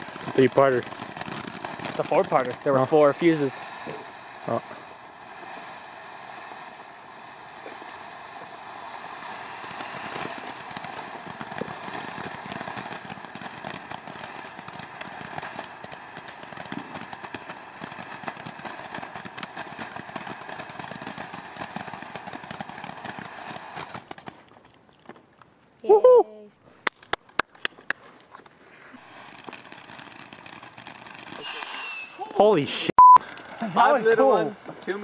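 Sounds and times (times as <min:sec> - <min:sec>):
fountain firework hissing and crackling: 0:00.0 - 0:24.7, 0:28.7 - 0:35.0.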